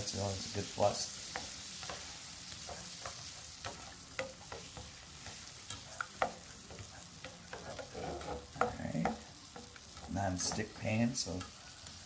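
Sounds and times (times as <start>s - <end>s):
eggs sizzling in a pan: 0.0s - 12.0s
spatula scraping and tapping pan: 1.2s - 12.0s.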